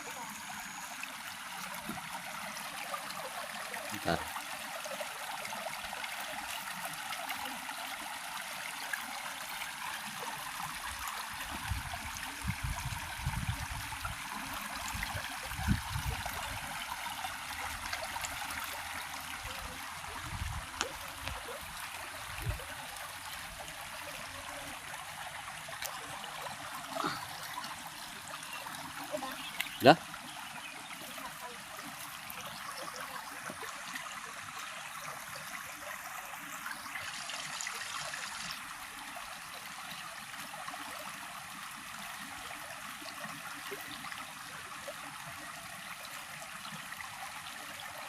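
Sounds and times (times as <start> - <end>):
stream water flowing: 0.0 - 48.0.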